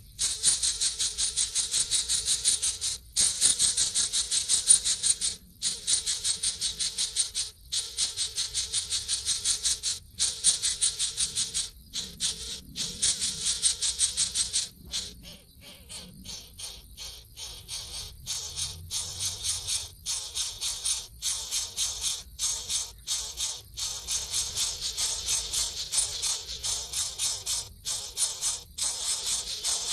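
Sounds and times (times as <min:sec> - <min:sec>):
birds chattering calls: 0:00.0 - 0:29.9.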